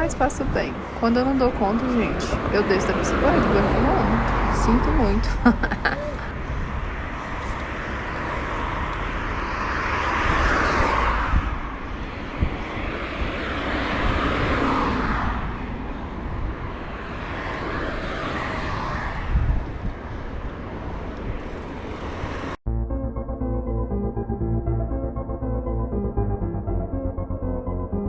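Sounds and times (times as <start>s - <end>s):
road traffic noise: 0.0s - 22.6s
wind buffeting microphone: 0.0s - 22.6s.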